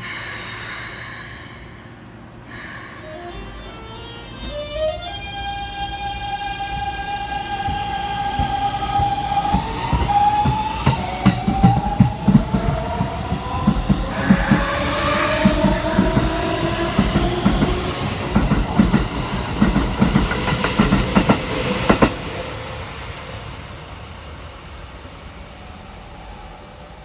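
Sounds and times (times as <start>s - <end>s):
electric train inverter whine: 0.0s - 27.0s.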